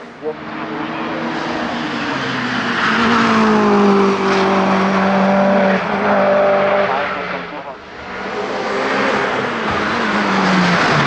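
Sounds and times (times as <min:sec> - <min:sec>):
race car engine passing: 0:00.0 - 0:11.0.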